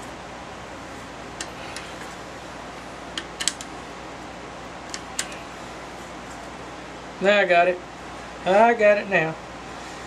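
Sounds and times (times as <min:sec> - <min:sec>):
low shop hum: 0:00.0 - 0:10.0.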